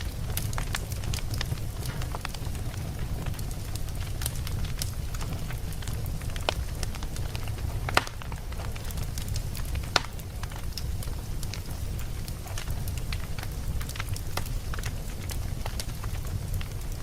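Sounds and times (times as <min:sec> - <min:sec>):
campfire rumbling and crackling: 0:00.0 - 0:17.0
sharp fire pops: 0:00.0 - 0:17.0.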